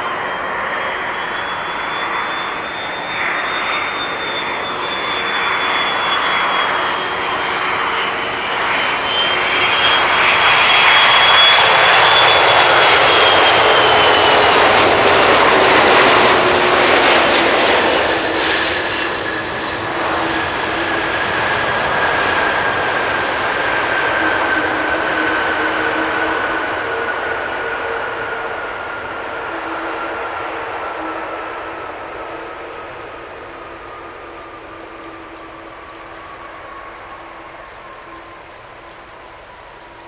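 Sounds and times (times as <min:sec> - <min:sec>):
jet engines whining: 0:00.0 - 0:40.0.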